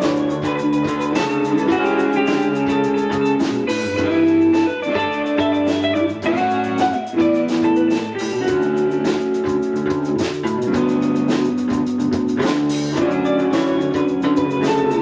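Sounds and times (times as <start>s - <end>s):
drum kit beat with cymbals: 0.0s - 15.0s
guitar chords ringing: 0.0s - 15.0s.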